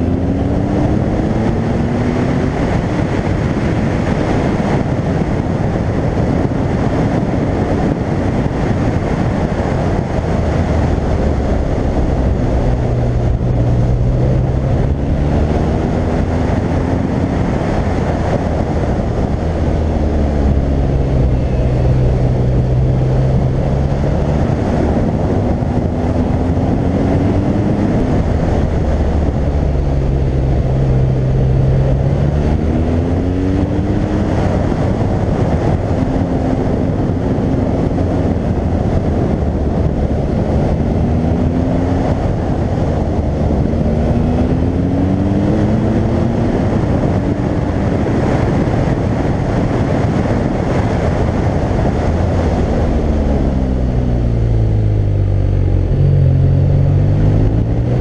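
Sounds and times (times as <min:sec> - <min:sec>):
motorcycle engine accelerating: 0:00.0 - 0:58.0
wind rushing over camera: 0:00.0 - 0:58.0.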